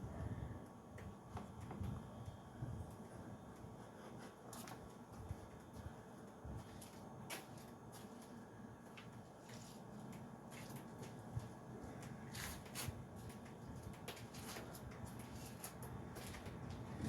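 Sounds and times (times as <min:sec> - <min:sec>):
light clicks and rustles: 0:02.9 - 0:17.0.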